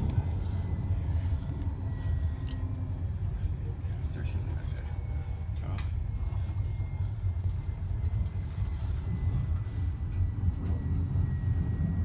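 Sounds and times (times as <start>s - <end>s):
train car rumble: 0.0s - 12.0s.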